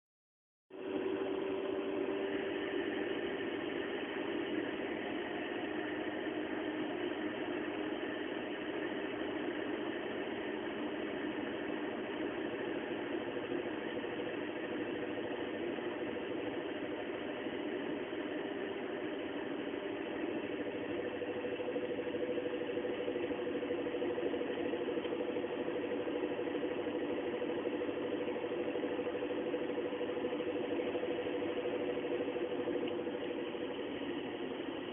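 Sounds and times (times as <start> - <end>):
car road and engine noise: 0.7 - 34.9.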